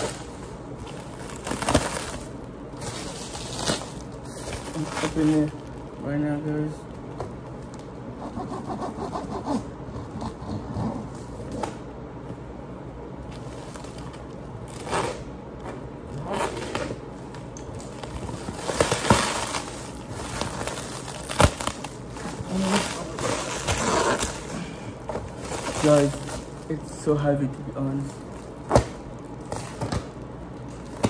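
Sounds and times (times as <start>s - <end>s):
plastic wrap crinkling and tearing: 0.0s - 7.9s, 13.2s - 15.3s, 16.0s - 31.0s.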